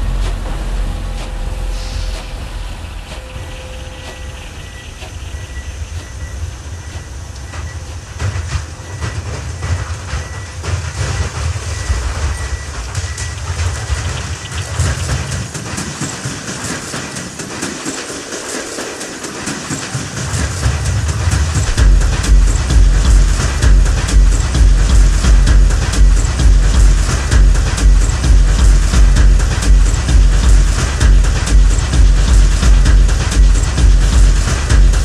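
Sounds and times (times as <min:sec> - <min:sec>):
deep mechanical rumble: 0:00.0 - 0:15.8, 0:20.2 - 0:35.0.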